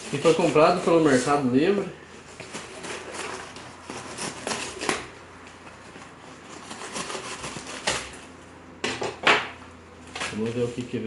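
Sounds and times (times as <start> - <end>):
packaging rustling and scraping: 0.0 - 9.2, 10.0 - 11.0.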